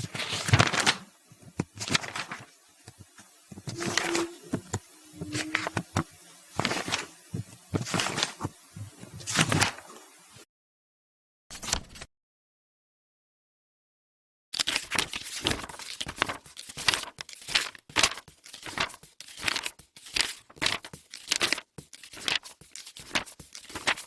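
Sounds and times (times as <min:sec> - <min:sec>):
book pages turning: 0:00.0 - 0:10.0, 0:14.6 - 0:24.0.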